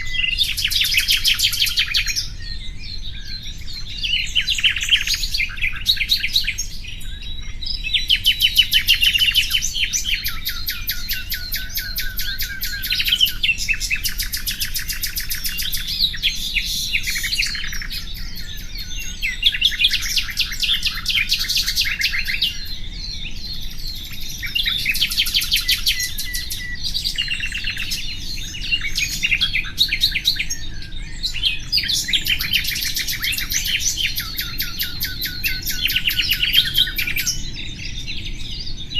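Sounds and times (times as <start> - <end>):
nightingale singing trills: 0.0 - 38.9.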